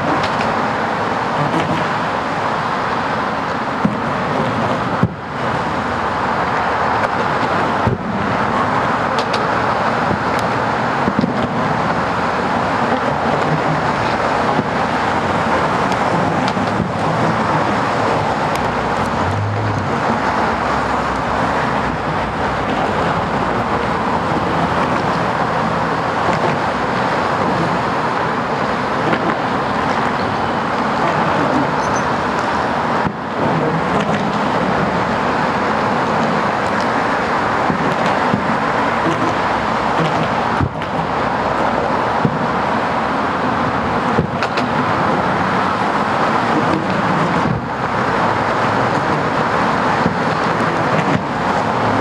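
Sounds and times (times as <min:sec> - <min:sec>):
road traffic noise: 0:00.0 - 0:52.0.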